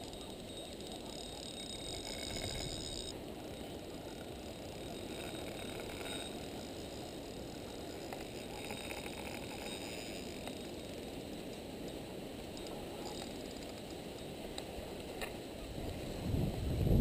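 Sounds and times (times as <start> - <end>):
fishing reel gears whirring: 0.0 - 16.2
low background rush: 0.0 - 17.0.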